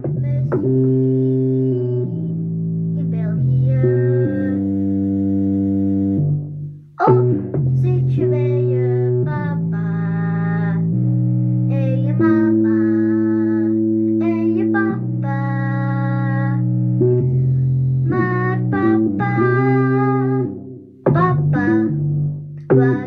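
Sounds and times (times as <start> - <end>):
synthesizer low held notes: 0.0 - 23.0.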